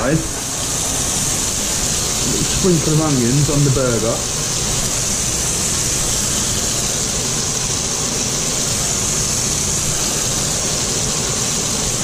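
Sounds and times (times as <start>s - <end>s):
burger patties sizzling in pan: 0.0s - 12.0s.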